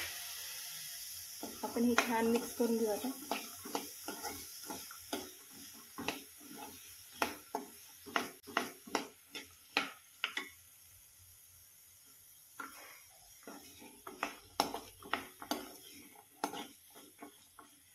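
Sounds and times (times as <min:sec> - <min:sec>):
spoon scraping a pan: 0:01.4 - 0:10.6, 0:12.6 - 0:17.9.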